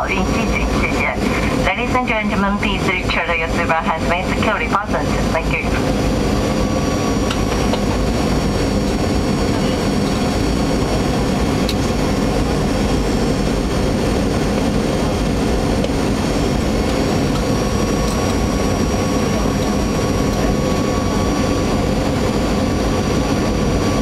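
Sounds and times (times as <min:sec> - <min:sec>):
jet engines: 0:00.0 - 0:24.0.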